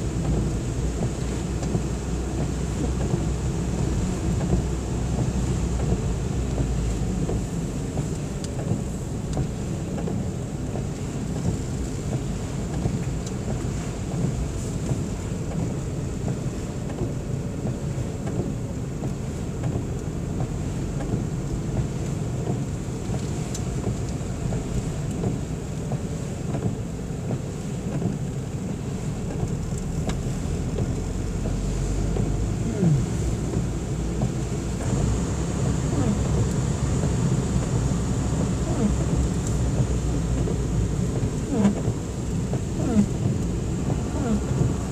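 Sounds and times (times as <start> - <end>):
engine and tyres rumbling: 0.0 - 44.9
rain noise: 0.0 - 44.9.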